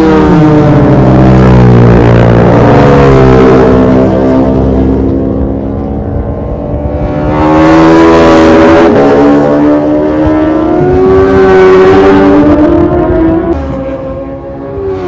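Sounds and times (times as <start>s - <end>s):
racing motorcycles passing by: 0.0s - 15.0s.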